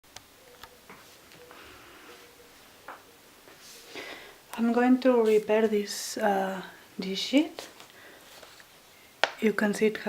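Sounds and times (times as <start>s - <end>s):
faint steady hum: 0.1s - 10.0s.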